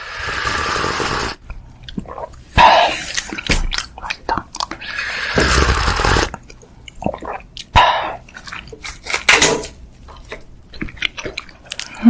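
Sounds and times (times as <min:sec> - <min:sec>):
close eating mouth noises: 0:00.1 - 0:09.2, 0:10.1 - 0:12.0.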